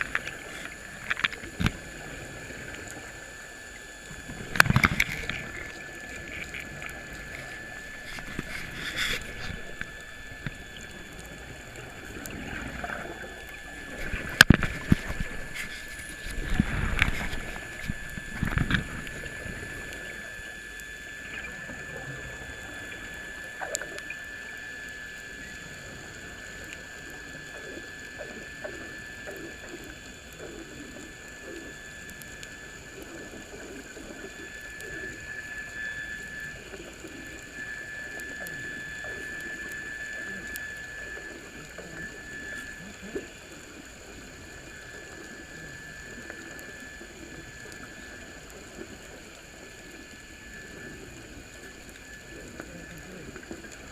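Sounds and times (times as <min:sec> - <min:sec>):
underwater high whine: 0:00.0 - 0:53.9.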